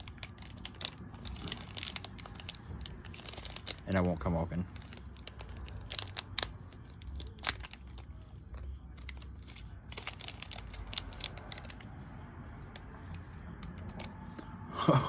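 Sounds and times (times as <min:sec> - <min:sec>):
candy wrapper crinkling: 0:00.0 - 0:14.4.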